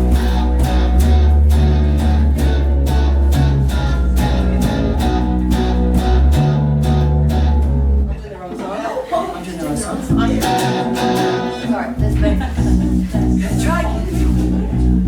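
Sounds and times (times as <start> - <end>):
steady drum beat: 0.0 - 7.9, 10.1 - 15.0
heavy bass line: 0.0 - 8.1, 10.1 - 15.0
strummed guitar: 0.0 - 8.2, 10.1 - 15.0.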